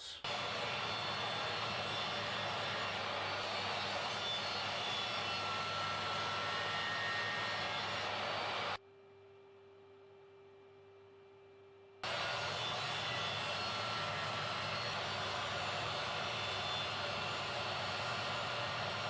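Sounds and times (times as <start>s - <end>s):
power saw cutting wood: 0.2s - 8.8s, 12.0s - 19.0s.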